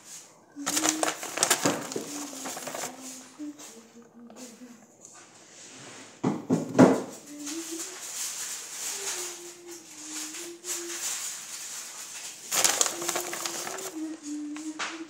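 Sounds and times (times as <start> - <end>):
rustling: 0.0 - 6.2, 7.1 - 15.0.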